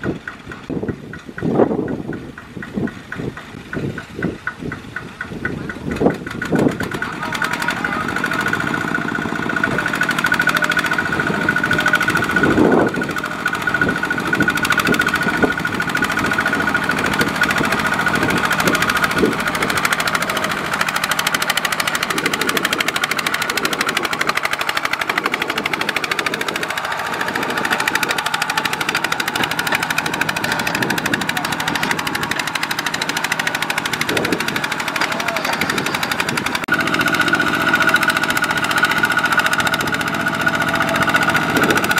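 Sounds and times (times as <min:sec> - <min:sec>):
diesel engine knocking under load: 0:00.0 - 0:41.9.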